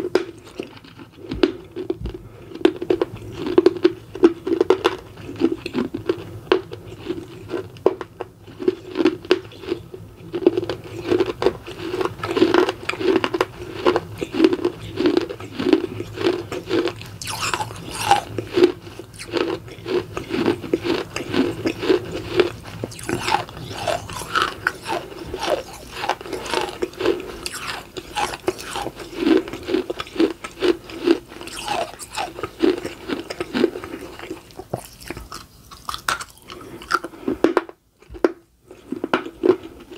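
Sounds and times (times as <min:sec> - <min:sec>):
crunching and chewing clay: 0:00.0 - 0:39.9.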